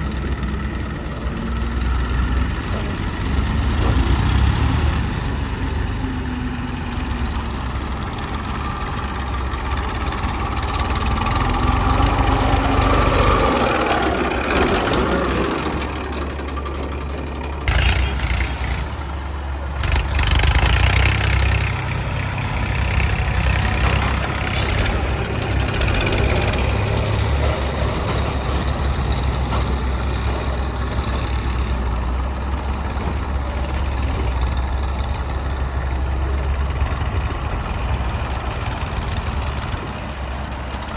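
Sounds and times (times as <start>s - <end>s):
diesel engines rumbling: 0.0s - 40.9s.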